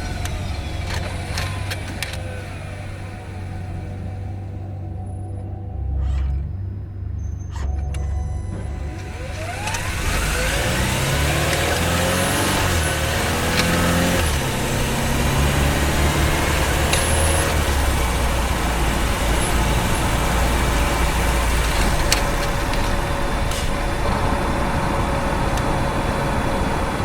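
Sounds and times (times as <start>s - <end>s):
car powertrain whine: 0.0s - 27.0s
low engine drone: 0.0s - 27.0s
road noise: 0.0s - 27.0s.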